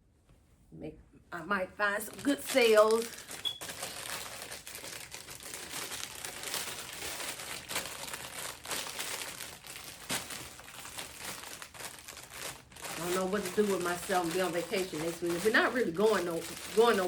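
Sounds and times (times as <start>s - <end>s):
plastic bag crinkling: 2.0s - 17.0s.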